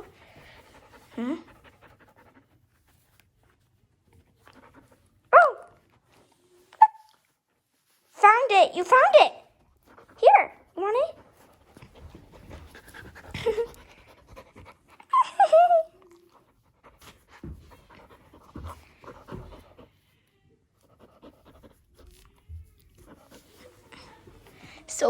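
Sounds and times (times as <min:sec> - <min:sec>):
dog panting: 0:00.0 - 0:06.5, 0:08.9 - 0:25.0.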